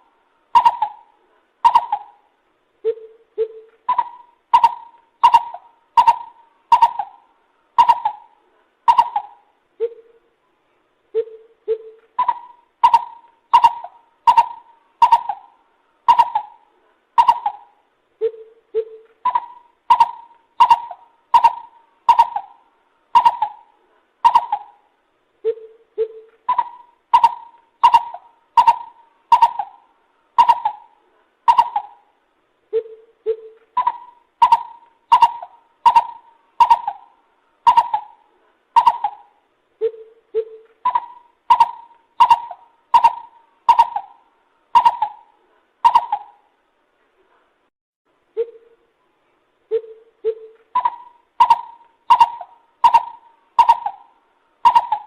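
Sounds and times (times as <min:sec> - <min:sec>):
bird calling hoots and notes: 0:00.0 - 0:46.6, 0:48.3 - 0:48.9, 0:49.7 - 0:55.0.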